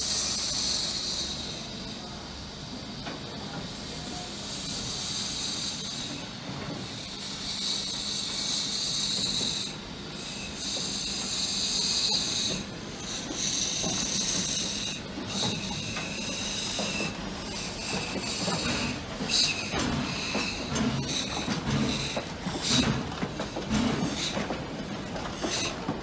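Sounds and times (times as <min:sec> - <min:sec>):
steam locomotive hissing steam: 0:00.0 - 0:26.0.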